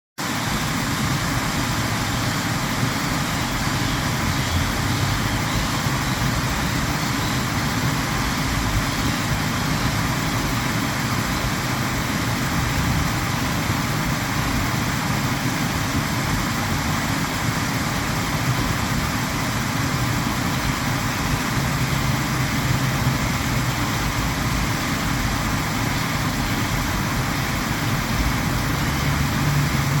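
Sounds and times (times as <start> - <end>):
water fountain splashing: 0.4 - 30.0.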